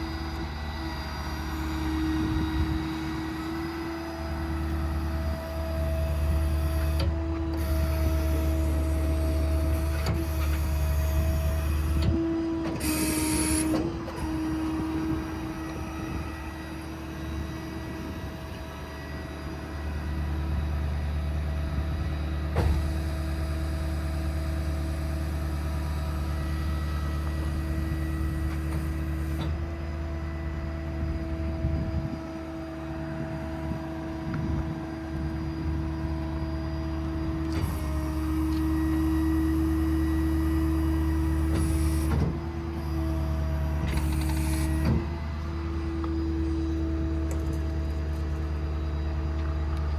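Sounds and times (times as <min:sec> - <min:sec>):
diesel engine running: 0:00.0 - 0:49.9
hydraulic pump whine: 0:00.0 - 0:49.9.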